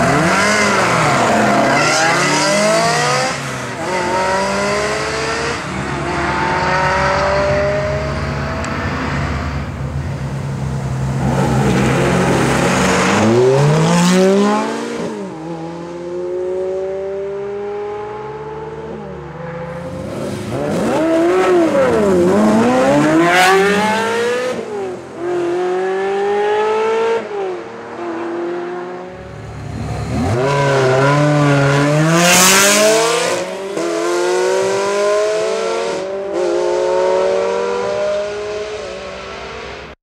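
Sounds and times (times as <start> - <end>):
sports cars accelerating past: 0.0 - 40.0.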